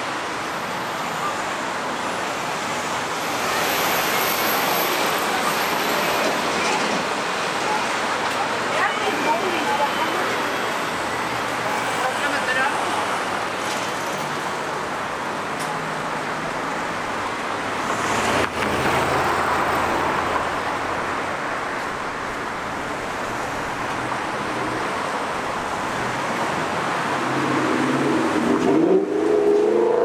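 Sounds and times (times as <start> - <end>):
street traffic passing: 0.0 - 30.0.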